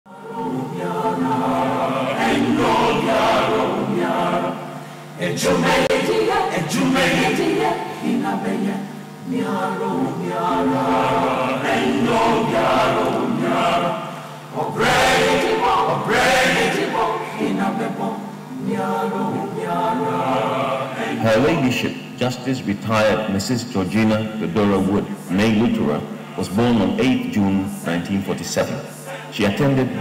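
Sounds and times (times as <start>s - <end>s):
choir singing: 0.1s - 21.9s, 24.5s - 30.0s.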